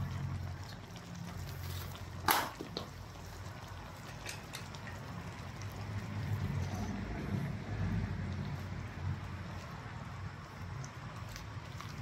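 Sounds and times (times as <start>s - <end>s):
gas burner running: 0.0s - 11.1s
soup simmering: 0.0s - 12.0s.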